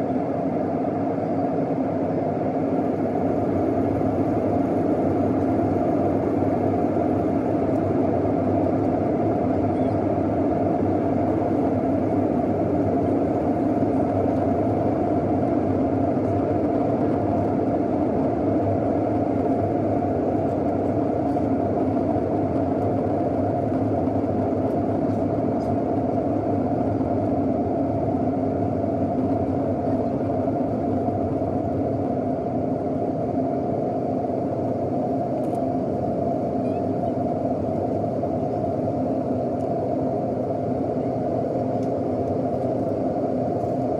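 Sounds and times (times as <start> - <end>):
airplane cabin engine rush: 0.0 - 43.9.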